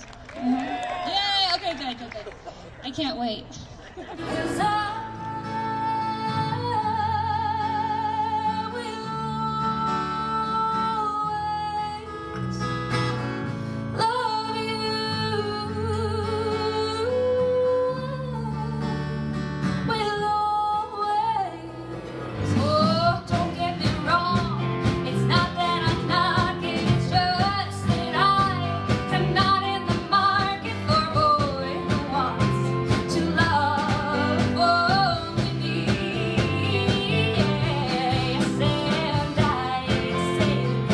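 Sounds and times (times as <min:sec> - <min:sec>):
woman singing: 0:04.2 - 0:12.7, 0:13.9 - 0:19.0, 0:19.8 - 0:40.9
acoustic guitar strumming: 0:04.2 - 0:40.9.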